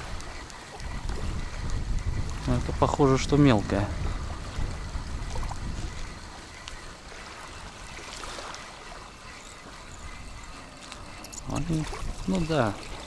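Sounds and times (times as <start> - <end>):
faint ticks: 0.0 - 13.0
small waves lapping on shore: 0.0 - 13.0
wind buffeting the microphone: 0.0 - 13.0.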